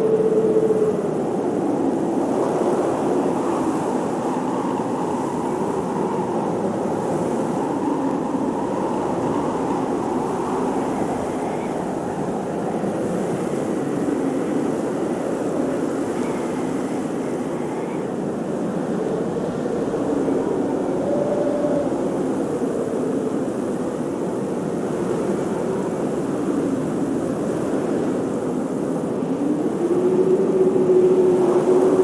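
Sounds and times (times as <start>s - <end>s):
blizzard wind rushing: 0.0s - 32.0s
wind whistling: 0.0s - 32.0s.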